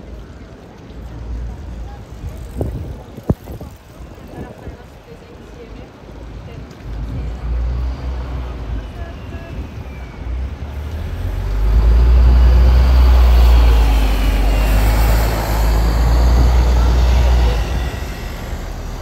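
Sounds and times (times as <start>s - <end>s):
heavy vehicle engine rumble: 0.0s - 19.0s
tyre and road noise: 0.0s - 19.0s.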